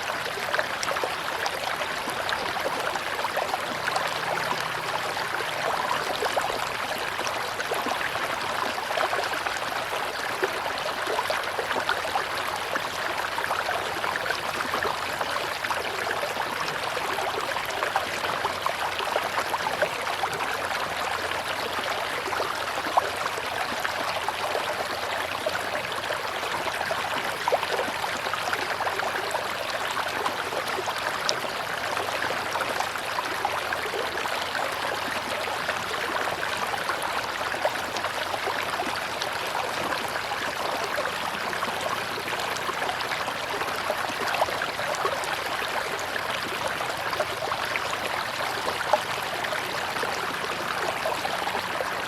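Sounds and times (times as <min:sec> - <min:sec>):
river water rushing: 0:00.0 - 0:52.0.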